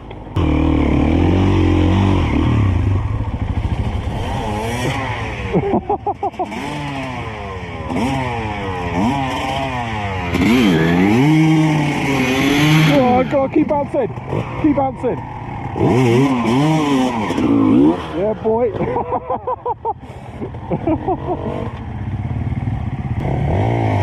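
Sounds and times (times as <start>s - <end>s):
dirt bike engine revving: 0.3s - 24.0s.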